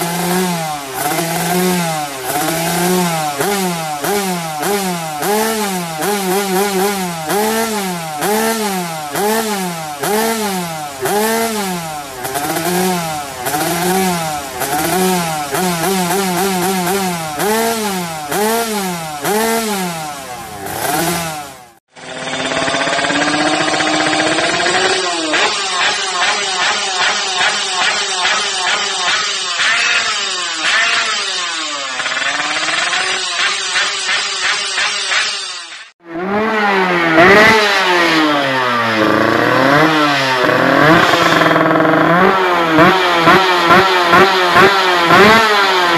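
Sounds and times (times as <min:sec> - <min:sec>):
motorcycle engine throttle blips: 0:00.0 - 0:35.3, 0:36.1 - 0:45.9.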